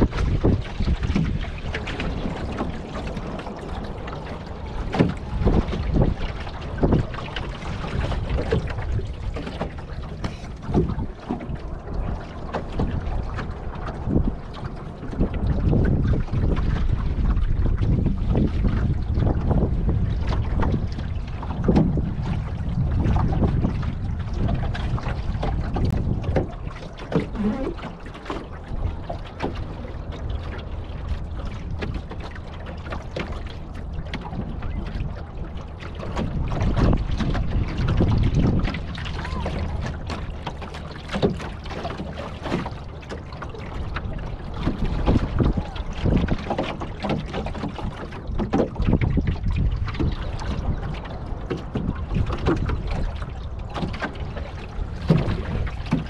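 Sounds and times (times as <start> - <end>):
water lapping against hull: 0.0 - 56.0
wind buffeting microphone: 0.0 - 56.0.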